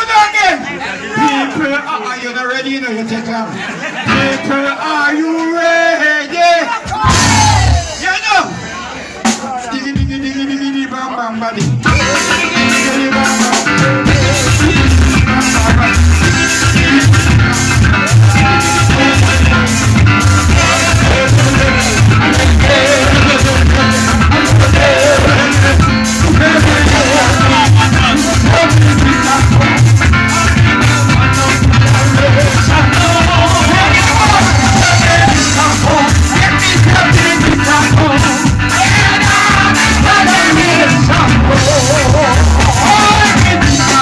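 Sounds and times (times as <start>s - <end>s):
keyboard: 3.6s - 44.0s
live band music: 6.7s - 44.0s
steady drumbeat: 6.9s - 10.3s, 11.6s - 44.0s
heavy bass: 6.9s - 10.4s, 11.6s - 44.0s.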